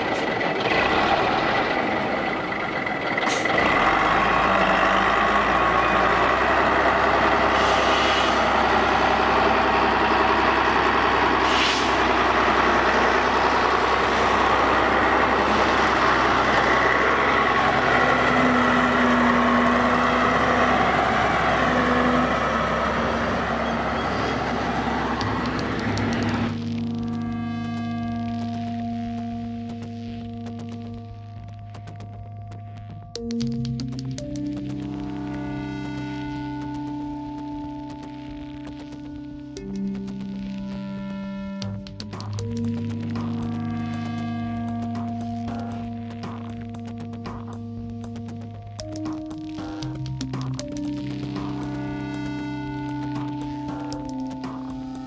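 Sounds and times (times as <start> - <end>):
diesel engine running: 0.0 - 55.0
high whine: 0.0 - 55.0.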